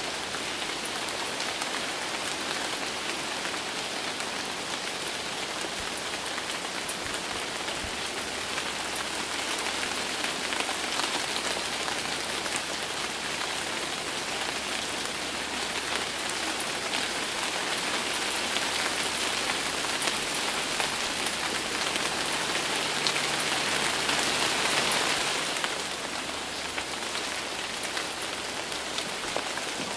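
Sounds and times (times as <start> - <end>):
steady rain with ticking drops: 0.0 - 29.9.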